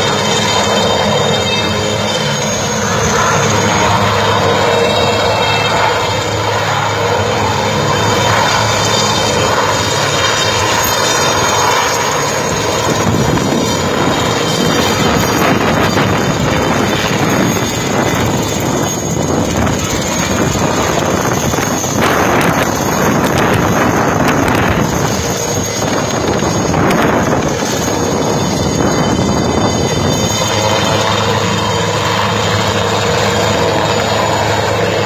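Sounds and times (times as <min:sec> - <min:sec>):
aircraft engine drone: 0:00.0 - 0:35.0.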